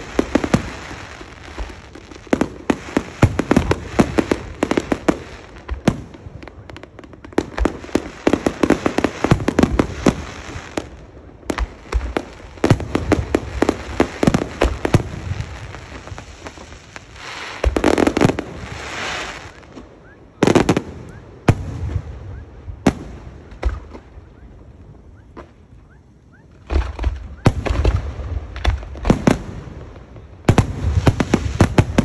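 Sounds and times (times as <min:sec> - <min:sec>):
firework bursts and crackling: 0:00.0 - 0:24.3, 0:26.6 - 0:32.0.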